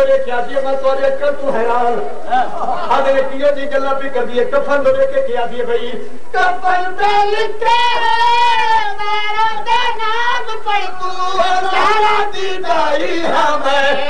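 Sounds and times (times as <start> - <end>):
high voice singing recitation: 0.0 - 14.0.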